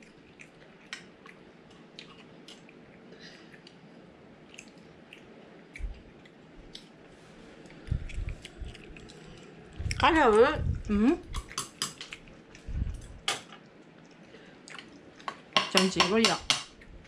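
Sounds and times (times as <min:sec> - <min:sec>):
person chewing food: 0:00.0 - 0:15.6
faint steady hum: 0:00.0 - 0:17.0.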